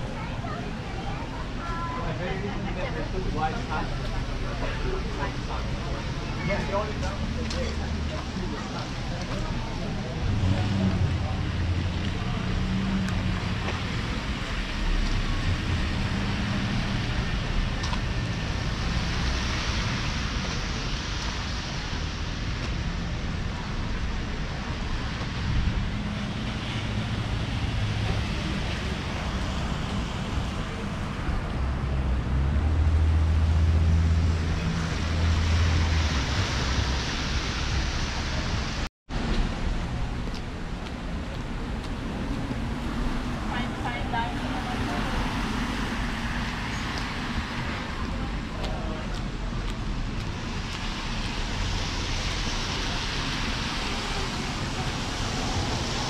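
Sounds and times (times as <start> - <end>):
car driving on road: 0.0 - 56.0.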